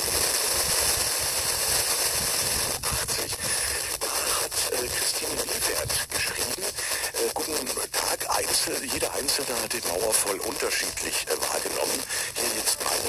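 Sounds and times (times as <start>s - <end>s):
radio static hiss: 0.0s - 13.0s
sharp clicks and crackles: 0.0s - 13.0s.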